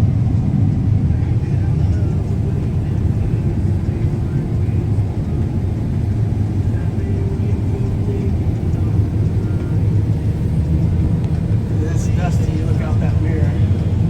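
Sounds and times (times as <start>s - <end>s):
faint hum: 0.0s - 14.0s
heavy vehicle engine rumbling: 0.0s - 14.0s.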